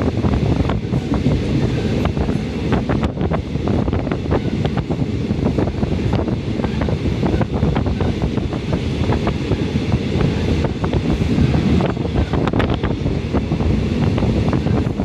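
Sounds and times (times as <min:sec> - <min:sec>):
train low rumble: 0:00.0 - 0:15.0
wind on microphone: 0:00.0 - 0:15.0.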